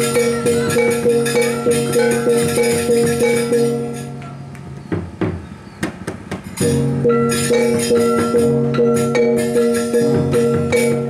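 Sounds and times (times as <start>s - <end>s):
gongs and metallophones struck: 0.0s - 4.4s, 6.4s - 11.0s.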